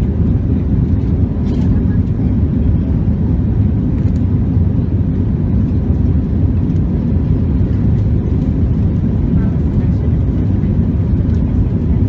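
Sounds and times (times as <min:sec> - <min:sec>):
jet engines in cabin: 0:00.0 - 0:12.0.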